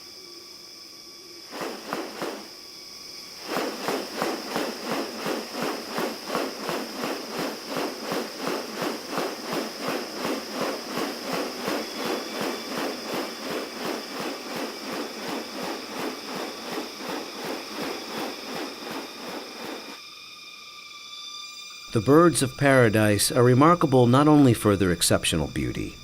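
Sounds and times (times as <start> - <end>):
insect chorus pulsing whine: 0.0 - 26.0.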